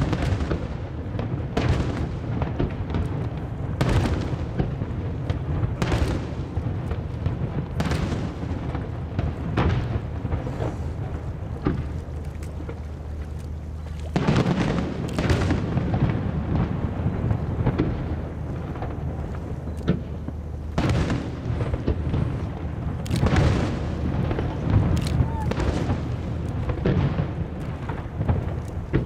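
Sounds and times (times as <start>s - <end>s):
fireworks bursting with sharp bangs: 0.0s - 12.9s, 14.0s - 29.0s
low rumble of booms: 0.0s - 29.0s.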